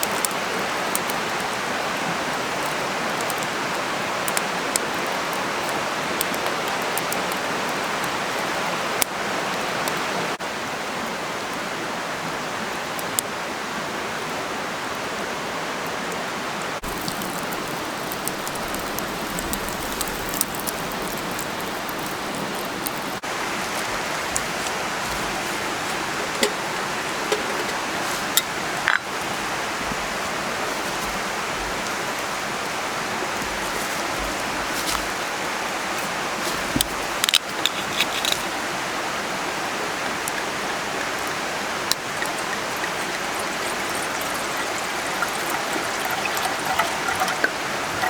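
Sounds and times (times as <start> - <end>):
campfire hissing and crackling: 0.0 - 48.0.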